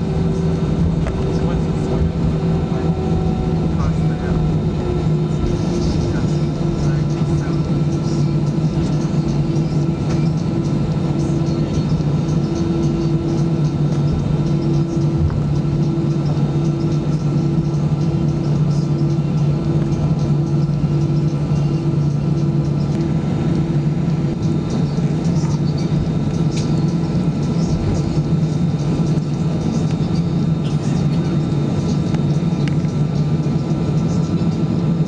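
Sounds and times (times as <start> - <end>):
pulsing higher hum: 0.0 - 35.0
steady low cabin hum: 0.0 - 35.0.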